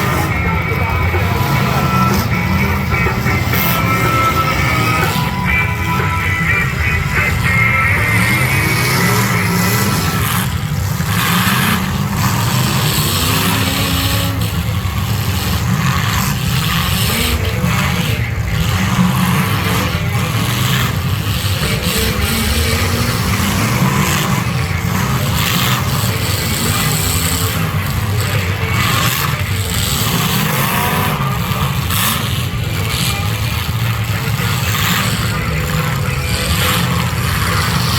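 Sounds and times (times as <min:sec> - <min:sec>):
car engines revving: 0:00.0 - 0:37.9.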